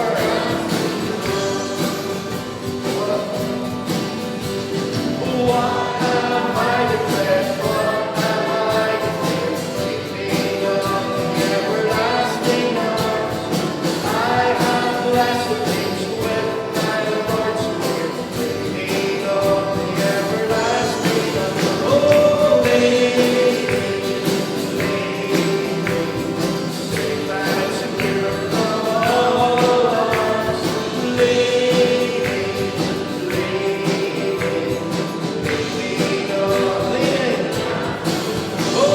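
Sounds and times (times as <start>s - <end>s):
group singing gospel song: 0.0s - 38.9s
instrumental accompaniment: 0.0s - 38.9s.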